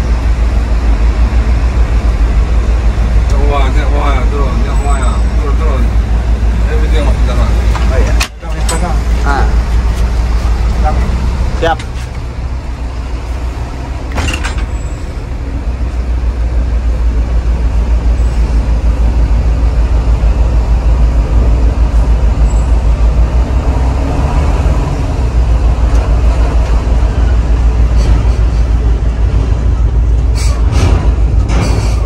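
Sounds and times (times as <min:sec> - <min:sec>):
bus diesel engine rumbling: 0:00.0 - 0:32.0.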